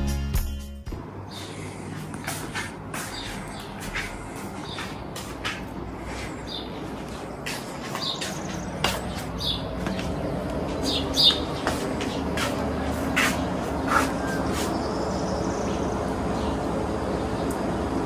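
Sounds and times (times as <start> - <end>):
birds chirping: 1.2 - 18.0.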